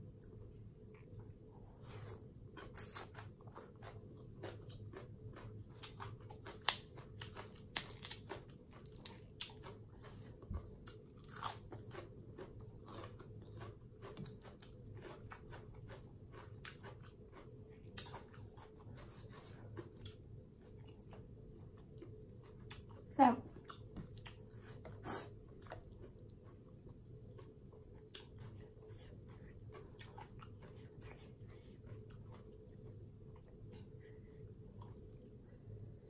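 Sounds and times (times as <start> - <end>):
person chewing crunchy food: 1.9 - 36.0.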